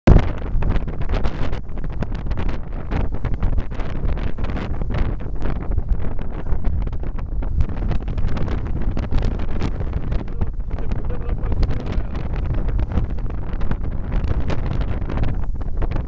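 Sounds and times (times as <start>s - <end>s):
gusty wind on microphone: 0.0s - 16.0s.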